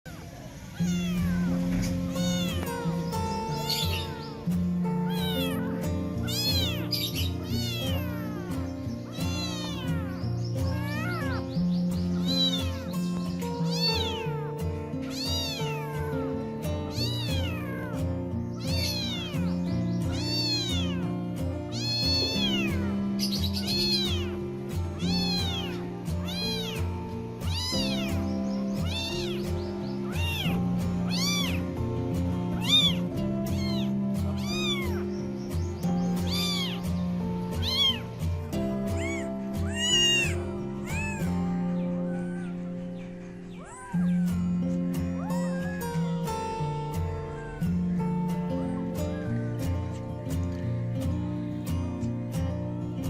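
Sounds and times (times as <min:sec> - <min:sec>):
kittens mewing: 0:00.0 - 0:50.7
background music: 0:01.0 - 0:53.0.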